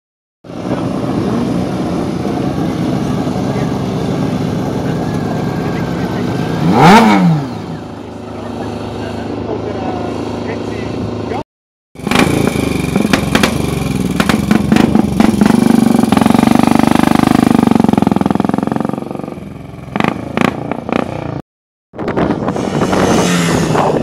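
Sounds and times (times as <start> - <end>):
motorcycle engine revving: 0.5 - 11.4, 12.0 - 21.4, 22.0 - 24.0.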